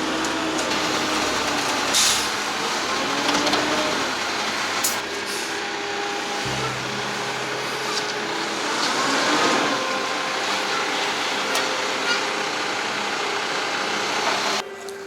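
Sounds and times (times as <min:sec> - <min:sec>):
construction machinery engines roaring: 0:00.0 - 0:15.0.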